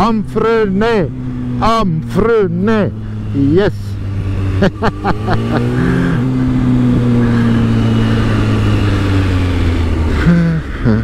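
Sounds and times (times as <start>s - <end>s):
motorcycle engine revving: 0.0s - 11.0s
road and wind noise: 0.0s - 11.0s.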